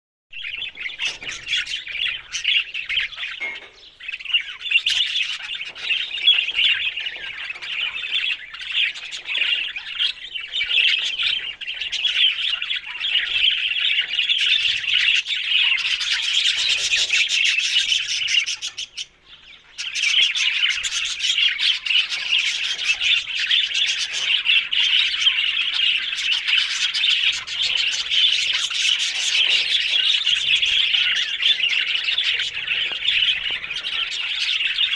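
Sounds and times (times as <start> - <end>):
budgerigars chirping and warbling: 0.4 - 34.9.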